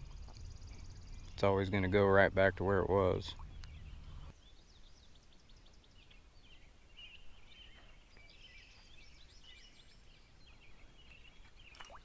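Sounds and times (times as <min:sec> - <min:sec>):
songbird chirps and trills: 0:00.0 - 0:12.0.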